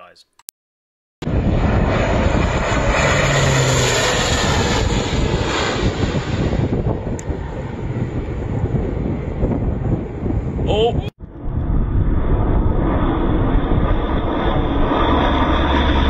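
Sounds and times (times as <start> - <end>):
airplane flying low past: 1.2 - 16.0.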